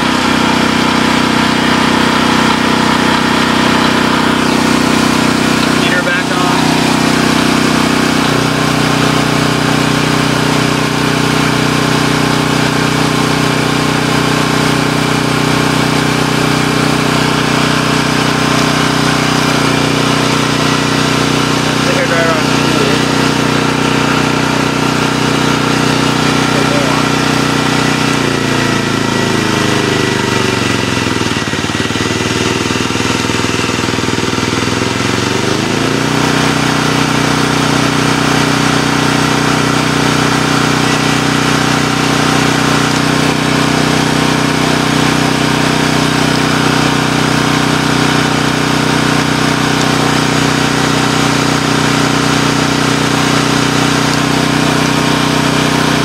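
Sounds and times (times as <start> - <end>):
generator engine humming: 0.0 - 56.0.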